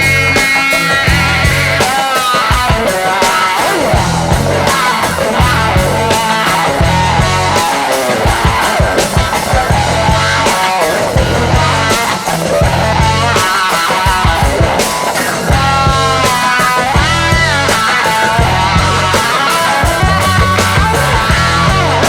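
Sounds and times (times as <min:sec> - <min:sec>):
rock music with guitar: 0:00.0 - 0:22.0.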